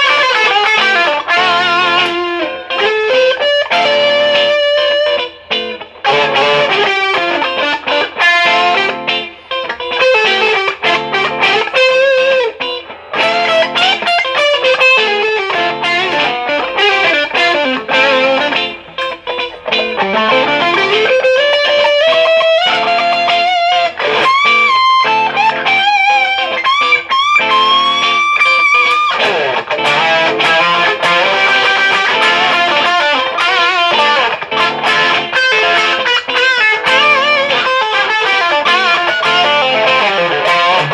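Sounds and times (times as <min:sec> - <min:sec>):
overdriven electric guitar: 0:00.0 - 0:40.9.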